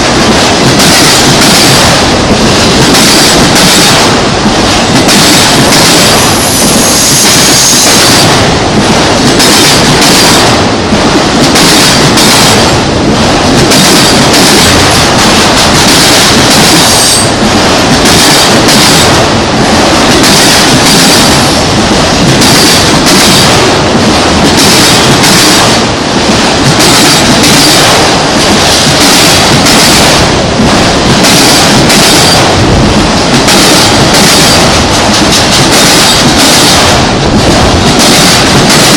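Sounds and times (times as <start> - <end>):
freight train rumbling past: 0.0 - 38.9
wheels clickety-clack: 0.0 - 38.9.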